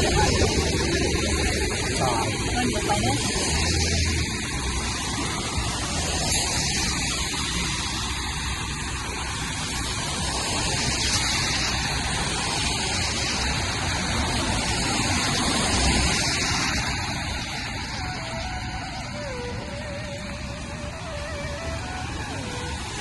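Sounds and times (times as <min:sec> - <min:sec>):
car traffic rushing: 0:00.0 - 0:23.0
rain hissing: 0:00.0 - 0:23.0
tyres on wet road: 0:00.0 - 0:23.0.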